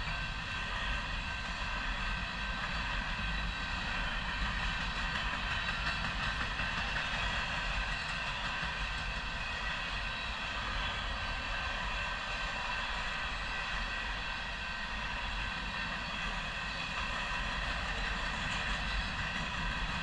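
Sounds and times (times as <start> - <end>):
ringing steel wheels: 0.0 - 20.0
rumble of train wheels on rail: 0.0 - 20.0.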